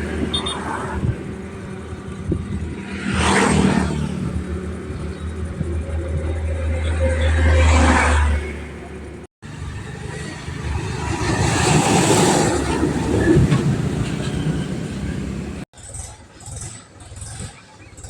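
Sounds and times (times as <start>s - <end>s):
mechanical rumble and rattle: 0.0s - 7.6s, 8.3s - 18.0s.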